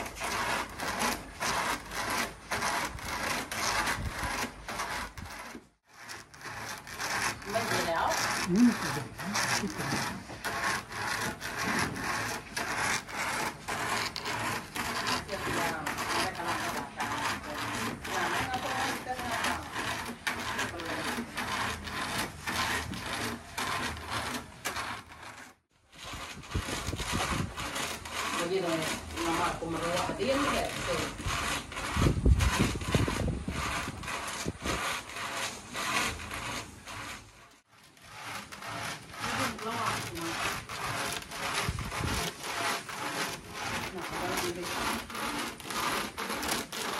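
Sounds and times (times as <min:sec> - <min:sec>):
rasping scrapes of hand grater: 0:00.0 - 0:46.9.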